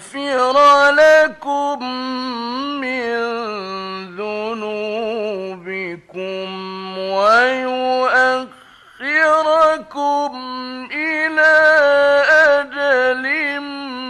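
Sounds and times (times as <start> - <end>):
man reciting melodically: 0.0 - 14.0.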